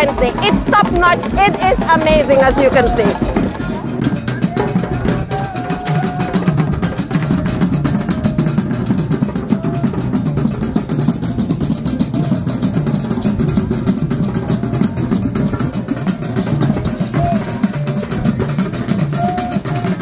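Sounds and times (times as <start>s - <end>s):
music with fast steady drumming: 0.0s - 20.0s.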